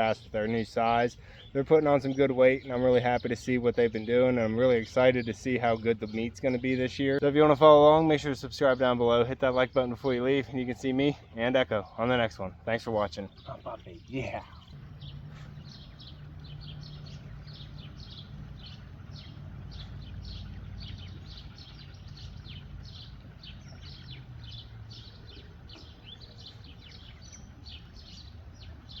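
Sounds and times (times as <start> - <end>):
birds peeping: 0.0 - 29.0
low steady hum: 0.0 - 29.0.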